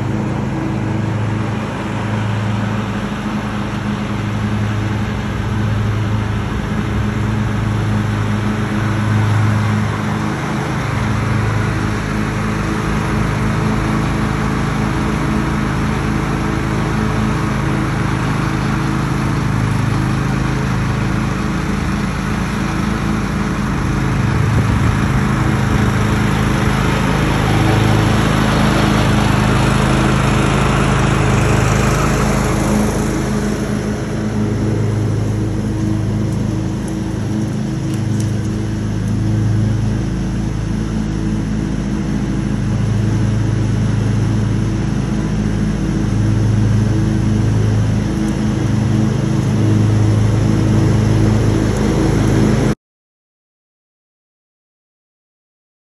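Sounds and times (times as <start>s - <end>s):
lawn tractor engine mowing: 0.0s - 52.7s.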